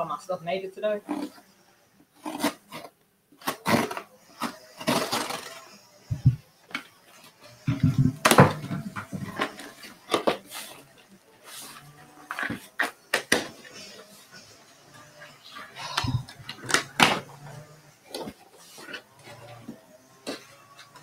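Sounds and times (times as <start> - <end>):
cardboard box rustling and scraping: 2.2 - 4.0, 4.8 - 6.4, 7.7 - 21.0.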